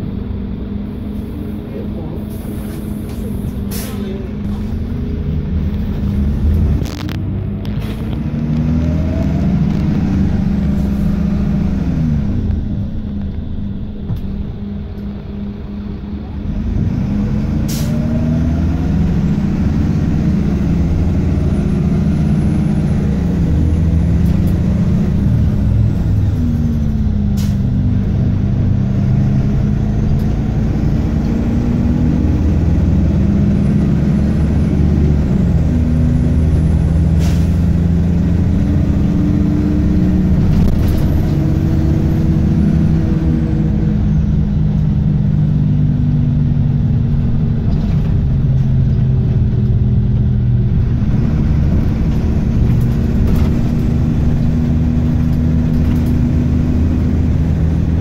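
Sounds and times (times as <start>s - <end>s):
bus engine pulling: 0.0s - 58.0s.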